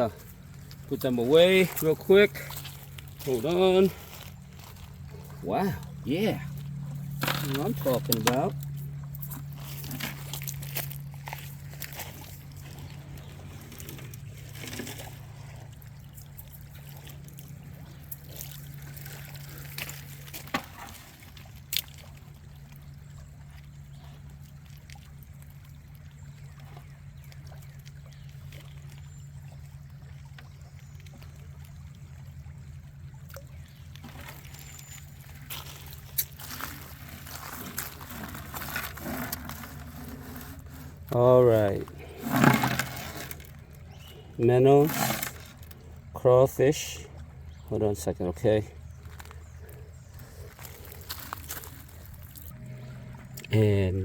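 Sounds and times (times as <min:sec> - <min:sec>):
low hum: 0:00.0 - 0:47.7, 0:48.6 - 0:54.0
creek water trickling: 0:00.0 - 0:54.0.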